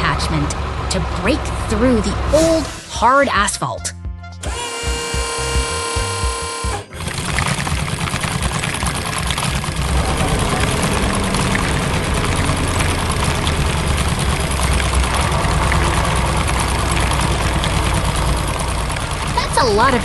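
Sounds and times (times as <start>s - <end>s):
diesel engine running with rattle: 0.0s - 2.7s, 4.4s - 20.0s.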